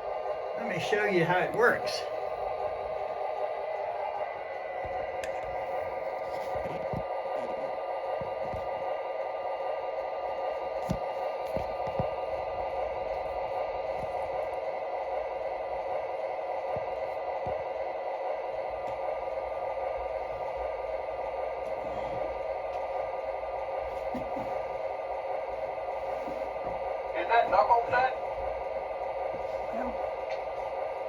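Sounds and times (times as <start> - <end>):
steady whirring hum: 0.0 - 31.0.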